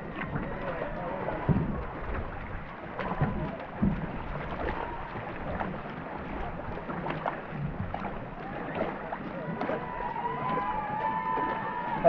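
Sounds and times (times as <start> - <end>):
paddles dipping in water: 0.0 - 12.0
water rushing: 0.0 - 12.0.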